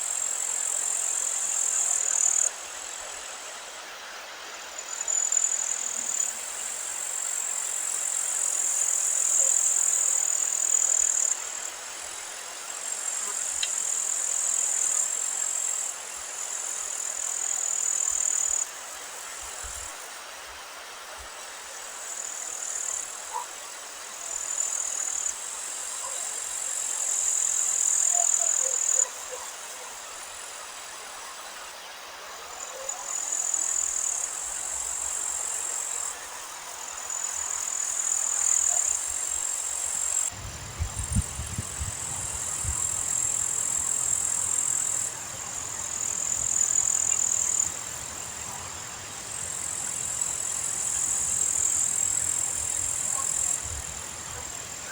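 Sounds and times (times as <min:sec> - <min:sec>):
wind hiss: 0:00.0 - 0:25.8, 0:33.4 - 0:54.9.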